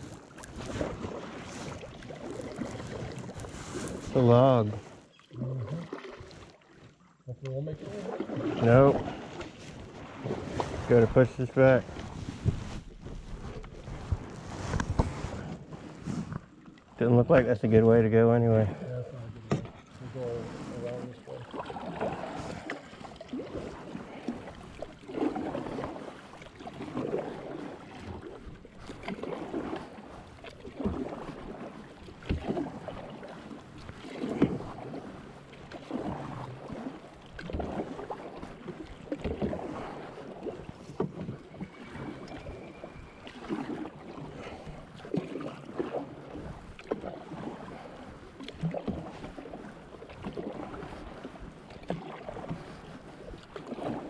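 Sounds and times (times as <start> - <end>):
paddles pulling through water: 0.0 - 54.0.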